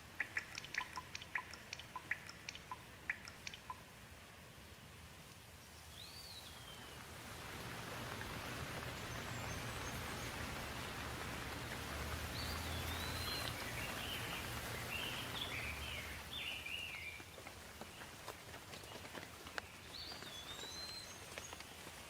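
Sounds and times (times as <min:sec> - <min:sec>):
rain falling: 0:00.0 - 0:22.0
bird chirping: 0:00.1 - 0:03.8, 0:05.6 - 0:07.1, 0:08.7 - 0:22.0.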